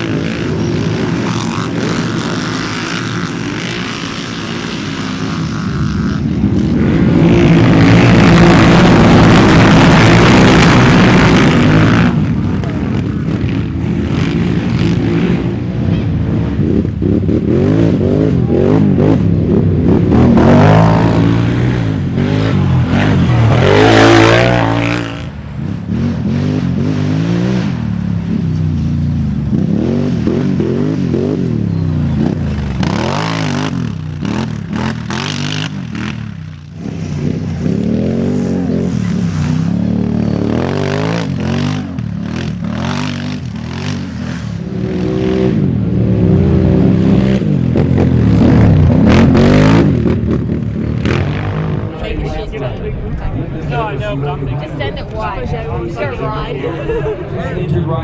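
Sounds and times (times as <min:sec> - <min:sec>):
quad engines revving: 0:00.0 - 0:53.9.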